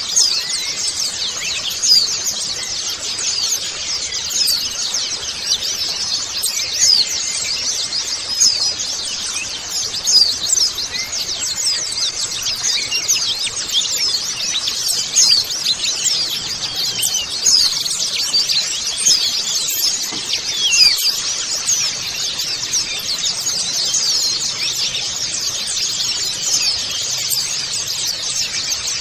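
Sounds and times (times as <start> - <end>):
flock of birds chirping: 0.0 - 29.0.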